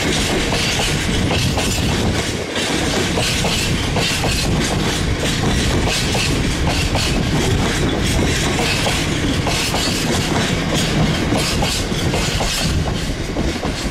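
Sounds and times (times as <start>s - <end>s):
freight train rumble: 0.0s - 13.9s.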